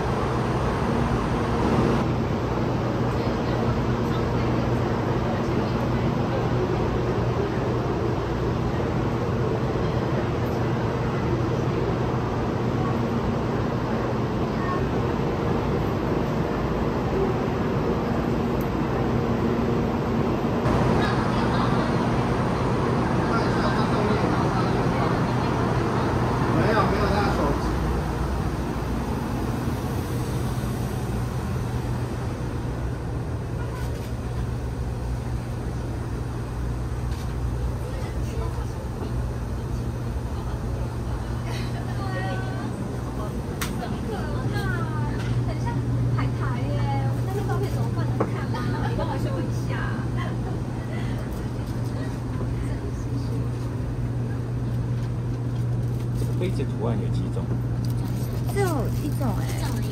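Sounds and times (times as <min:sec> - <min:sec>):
low mechanical hum and rumble: 0:00.0 - 0:59.9.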